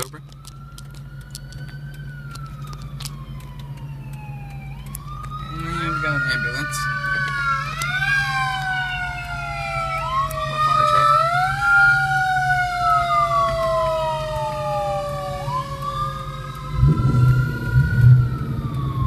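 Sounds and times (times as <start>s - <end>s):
low exhaust rumble: 0.0s - 19.0s
supercharger whine: 0.0s - 19.0s.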